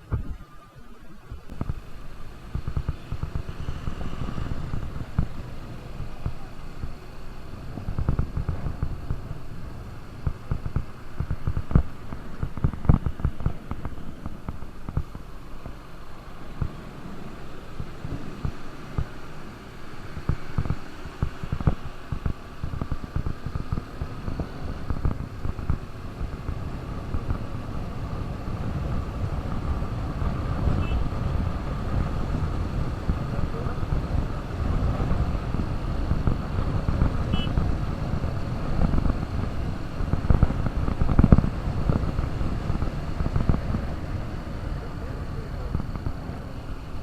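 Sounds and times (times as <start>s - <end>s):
motorcycle engine running: 0.0s - 47.0s
wind buffeting microphone: 1.2s - 47.0s.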